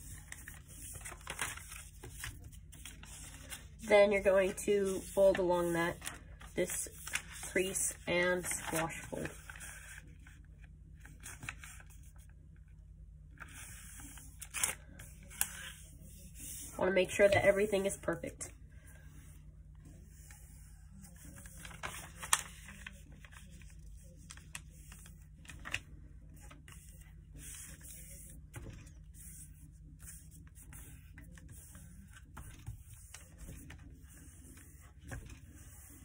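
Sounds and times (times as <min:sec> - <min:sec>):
paper rustling and crinkling: 0:00.0 - 0:10.4, 0:11.0 - 0:12.3, 0:13.4 - 0:18.1, 0:20.1 - 0:36.0
faint low hum: 0:00.0 - 0:36.0.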